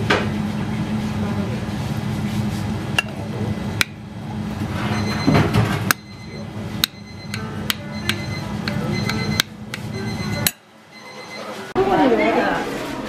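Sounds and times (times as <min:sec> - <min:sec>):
low restaurant hum: 0:00.0 - 0:13.0.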